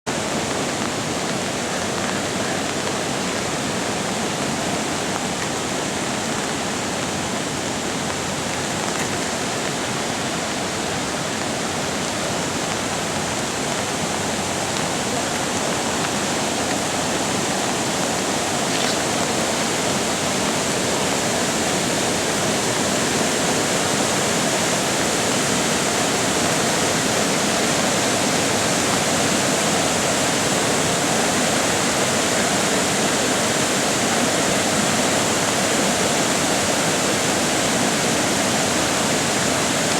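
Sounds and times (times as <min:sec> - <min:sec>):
floodwater rushing in creek: 0:00.1 - 0:39.9.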